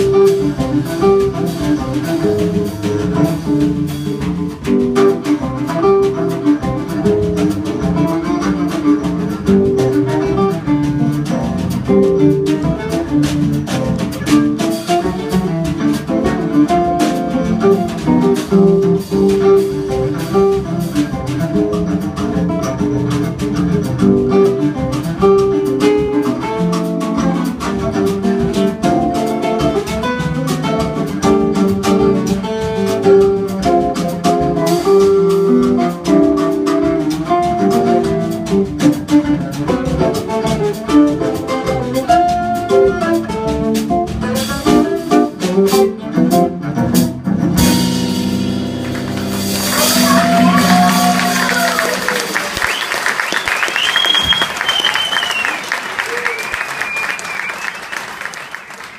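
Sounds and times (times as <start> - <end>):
classical guitar: 0.0 - 51.1
cello: 0.0 - 52.2
drum kit: 0.0 - 58.4.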